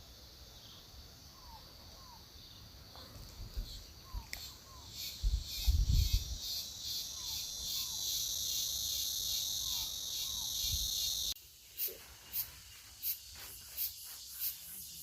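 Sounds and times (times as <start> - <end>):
insects trilling chorus: 0.0 - 15.0.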